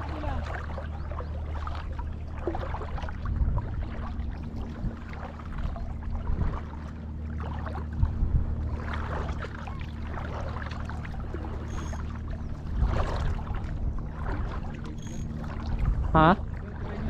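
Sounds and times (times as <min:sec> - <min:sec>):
boat engine droning: 0:00.0 - 0:17.0
water sounds: 0:00.0 - 0:17.0.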